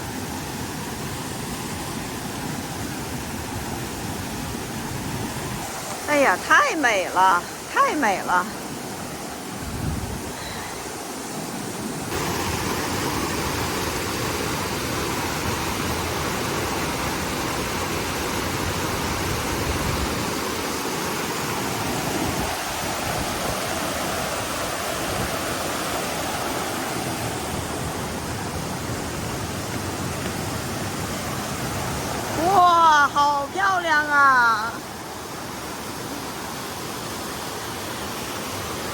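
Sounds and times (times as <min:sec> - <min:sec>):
stream rushing over waterfalls: 0:00.0 - 0:38.9.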